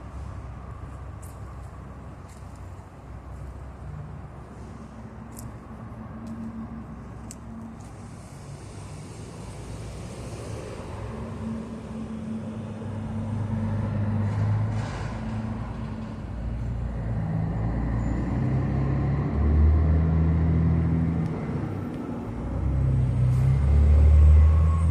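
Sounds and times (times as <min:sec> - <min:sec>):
vehicle engine humming: 0:00.0 - 0:24.9.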